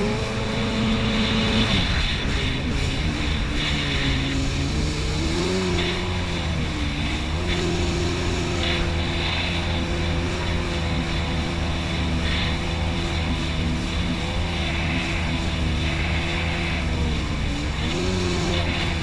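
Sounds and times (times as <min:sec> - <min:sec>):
watercraft engine running: 0:00.0 - 0:19.0.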